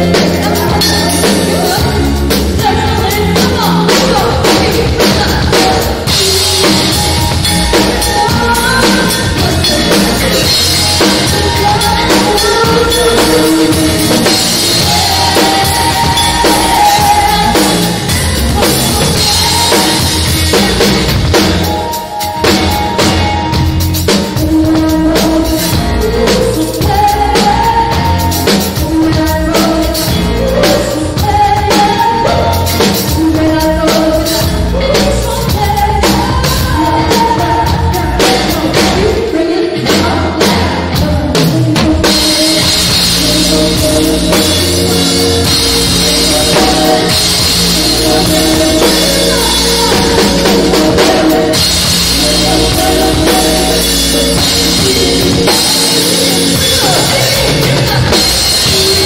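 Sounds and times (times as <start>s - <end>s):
drum kit: 0.0s - 59.0s
live funk-pop band: 0.0s - 59.0s
person singing: 0.0s - 59.0s.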